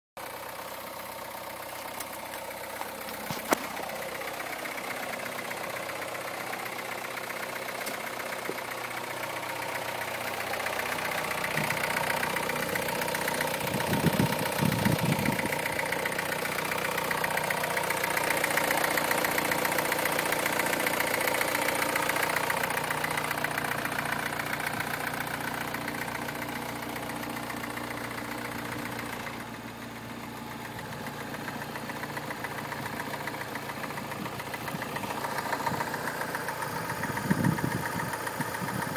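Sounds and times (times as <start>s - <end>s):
car engine running: 0.2s - 38.9s.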